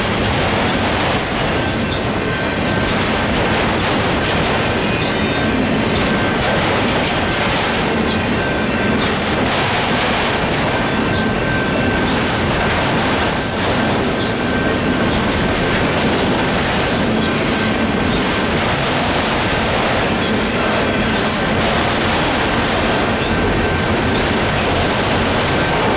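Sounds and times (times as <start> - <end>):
train wheels clattering on rails: 0.0 - 25.9.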